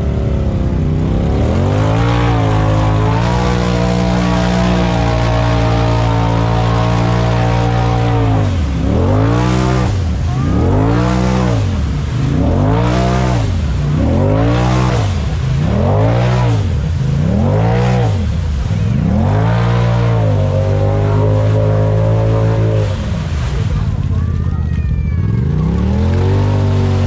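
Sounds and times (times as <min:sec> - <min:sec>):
engine revving: 0:00.0 - 0:24.4, 0:25.2 - 0:27.0.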